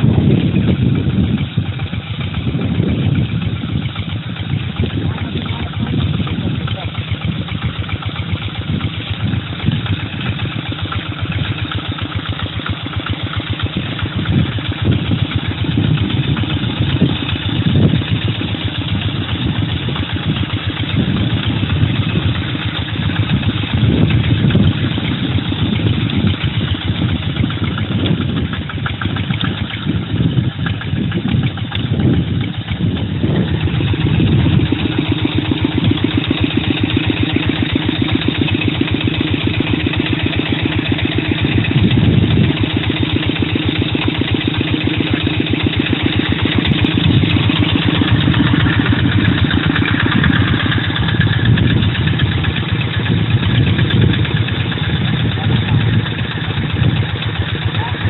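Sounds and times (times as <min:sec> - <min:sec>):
hand tractor diesel engine chugging: 0:00.0 - 0:58.0.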